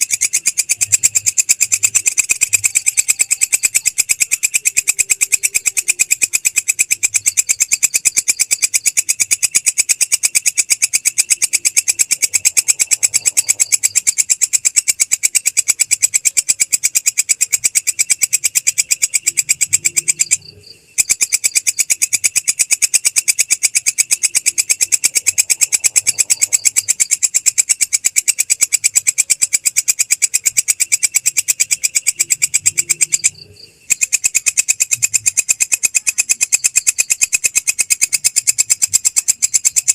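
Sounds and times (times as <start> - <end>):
insect stridulating: 0.0 - 39.9.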